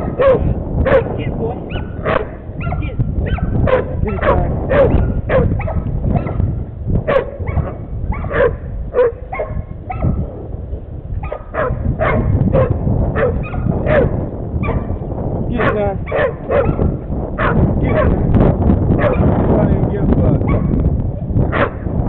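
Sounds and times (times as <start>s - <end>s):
dogs barking rapidly: 0.0s - 10.3s, 11.2s - 18.3s, 18.9s - 19.5s, 20.4s - 20.8s, 21.5s - 22.0s
low rumbling noise: 0.0s - 22.0s.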